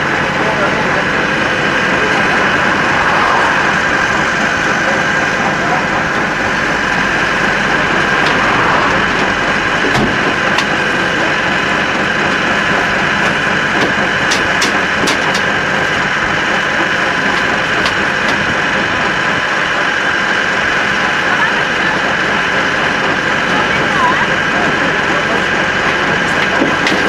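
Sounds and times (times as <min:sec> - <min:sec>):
fire engine idling: 0:00.0 - 0:27.0.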